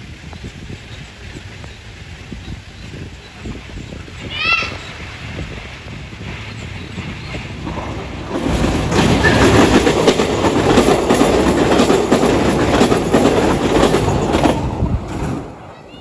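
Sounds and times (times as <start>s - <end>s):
train rumbling past: 0.0s - 16.0s
wheels clattering on rails: 0.0s - 16.0s.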